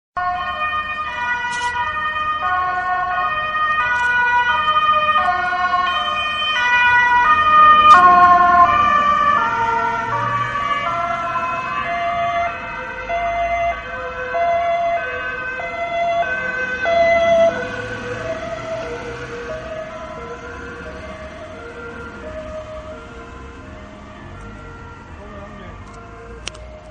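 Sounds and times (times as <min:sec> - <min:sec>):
police car two-tone siren: 0:00.2 - 0:26.9.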